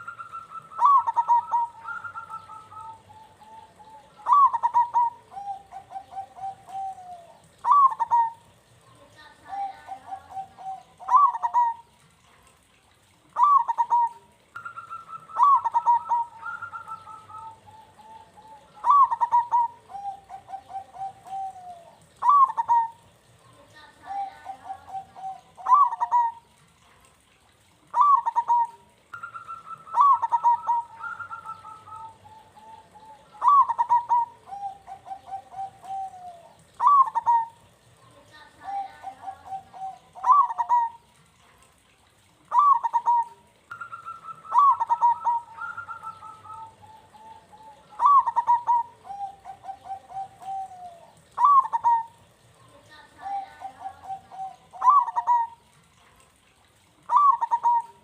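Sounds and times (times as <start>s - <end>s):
dove cooing: 0.0s - 12.4s, 13.2s - 26.6s, 27.4s - 41.2s, 42.1s - 56.0s, 56.6s - 58.0s.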